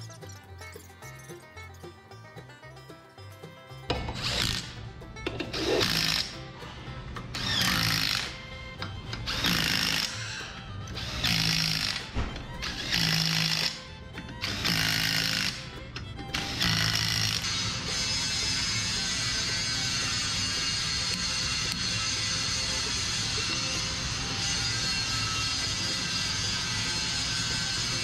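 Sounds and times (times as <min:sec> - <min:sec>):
background music: 0:00.0 - 0:28.0
impact wrench bursts: 0:03.9 - 0:28.0.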